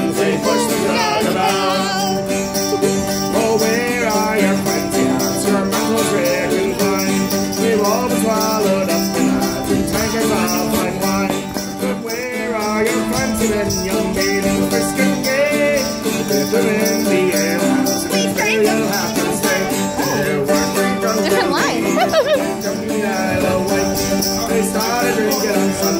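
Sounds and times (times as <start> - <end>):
man singing: 0.0 - 25.9
strummed string instruments: 0.0 - 25.9.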